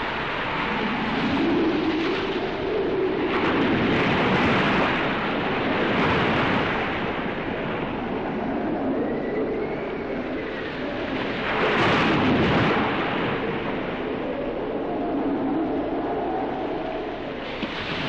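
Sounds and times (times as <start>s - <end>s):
low wavering wind howl: 0.0s - 18.0s
sea wind rushing: 0.0s - 18.0s.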